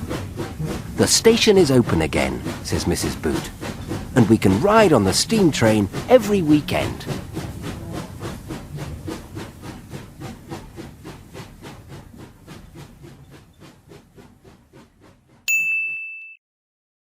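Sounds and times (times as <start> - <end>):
steam locomotive chuffing: 0.0 - 15.5.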